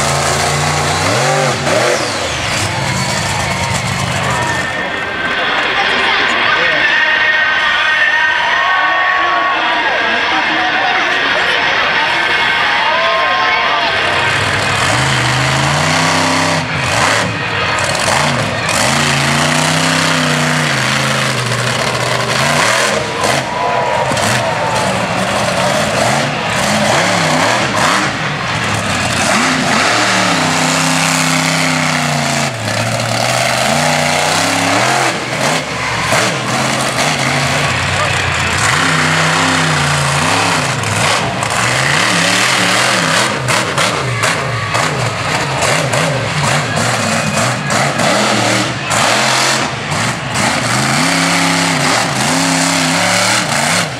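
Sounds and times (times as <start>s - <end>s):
truck engines revving hard: 0.0s - 53.9s.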